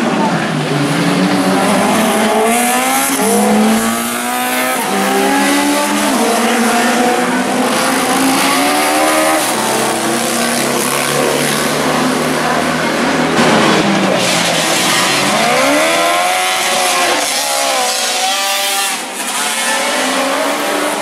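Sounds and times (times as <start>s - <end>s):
racing engines revving: 0.0s - 21.0s.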